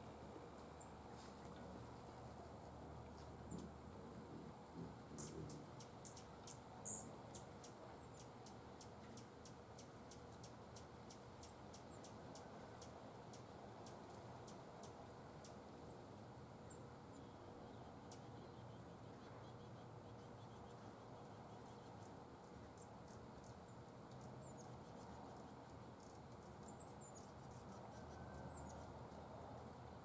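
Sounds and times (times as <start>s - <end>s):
hummingbird ticks and chip notes: 0.5s - 29.3s.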